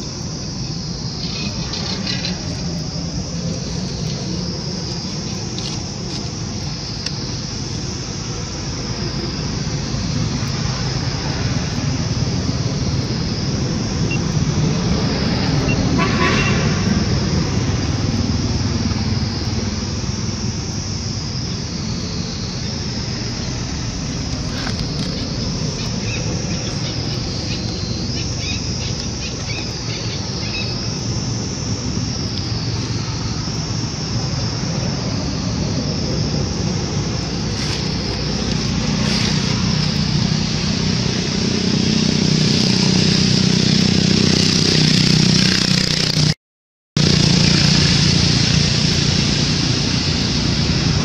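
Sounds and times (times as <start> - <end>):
steady high buzz: 0.0 - 46.4, 47.0 - 51.0
vehicle engine rumbling: 0.0 - 46.4, 47.0 - 51.0.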